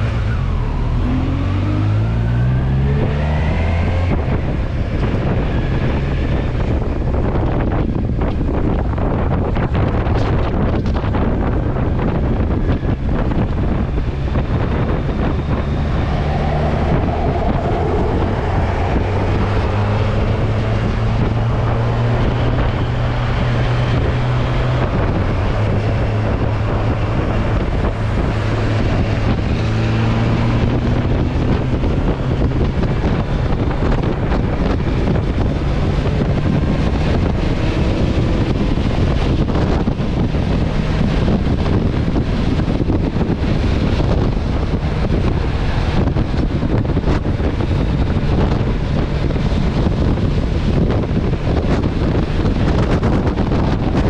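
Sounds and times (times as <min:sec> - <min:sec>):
wind noise on microphone: 0:00.0 - 0:54.0
motorcycle engine running: 0:04.1 - 0:54.0.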